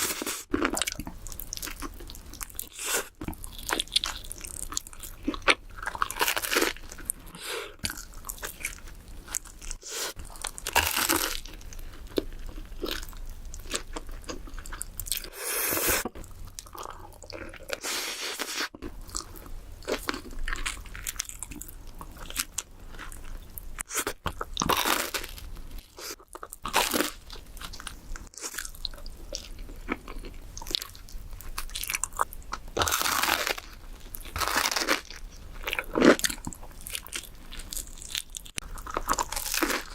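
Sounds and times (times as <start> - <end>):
chewing: 0.1 - 15.4, 16.0 - 39.9.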